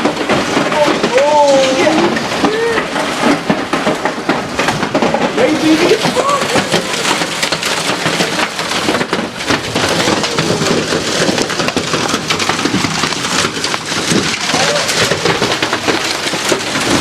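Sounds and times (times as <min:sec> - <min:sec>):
hail and rain pelting down: 0:00.0 - 0:17.0.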